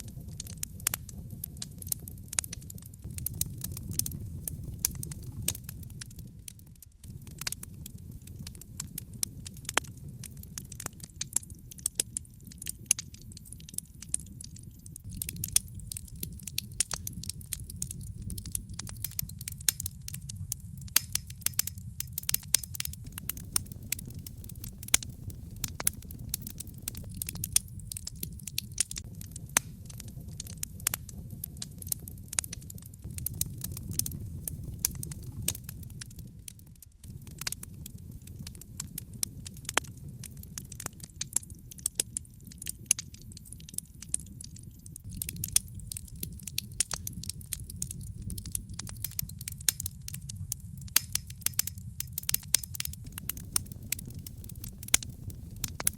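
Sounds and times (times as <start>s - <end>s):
logs crackling and popping: 0.0s - 55.9s
low rumble of flames: 0.0s - 55.9s.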